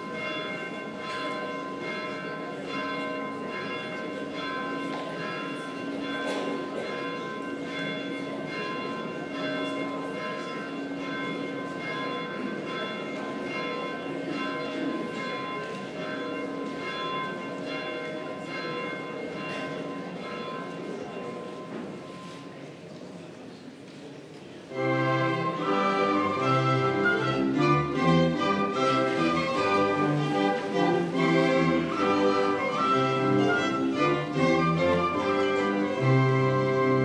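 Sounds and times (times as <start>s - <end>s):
church bells ringing: 0.0s - 22.7s, 24.7s - 37.0s.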